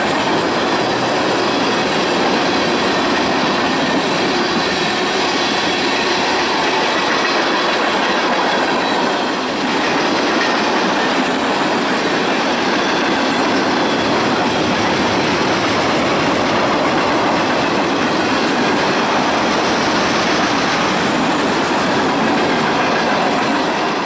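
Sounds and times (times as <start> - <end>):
steel train wheels on rails: 0.0 - 24.0.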